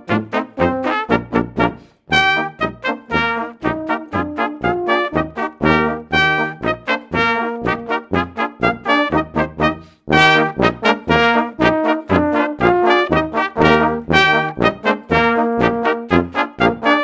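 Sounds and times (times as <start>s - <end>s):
brass band playing polka: 0.0s - 17.0s
tuba bass notes: 0.0s - 17.0s.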